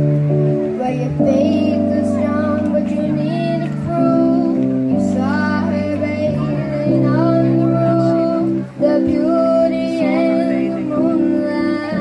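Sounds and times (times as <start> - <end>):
recorded accompaniment of held chords: 0.0 - 12.0
boy singing into a microphone: 0.6 - 12.0.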